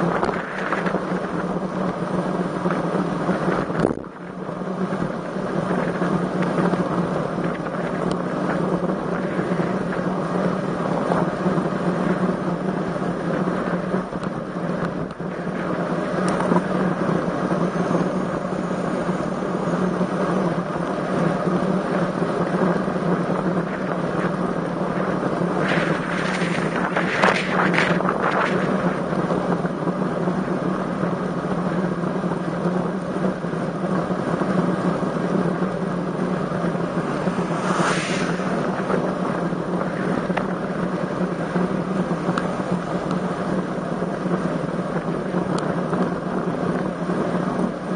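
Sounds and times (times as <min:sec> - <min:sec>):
wind rushing on microphone: 0:00.0 - 0:47.9.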